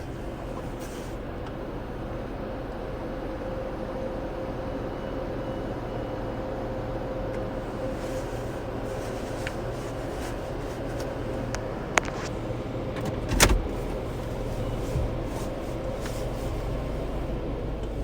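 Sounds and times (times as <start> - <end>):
car wash machinery drone: 0.0 - 18.0.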